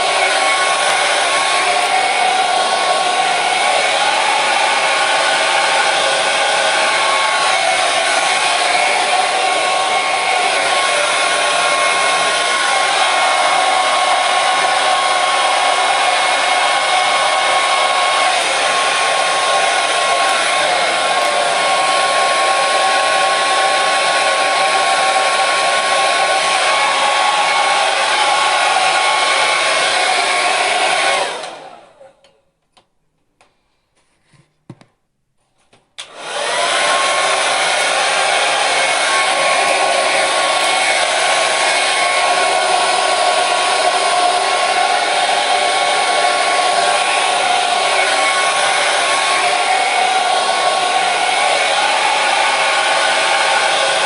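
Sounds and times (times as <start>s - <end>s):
hair dryer blowing: 0.0s - 32.2s, 36.0s - 54.0s.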